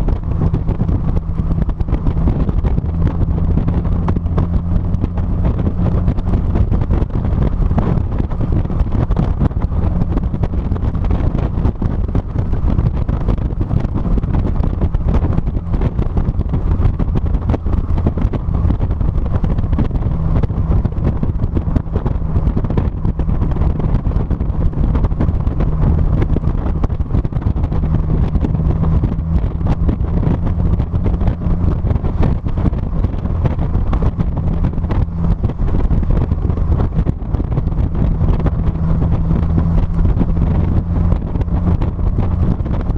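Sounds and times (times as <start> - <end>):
car engine and exhaust droning: 0.0 - 42.9
wind buffeting microphone: 0.0 - 42.9.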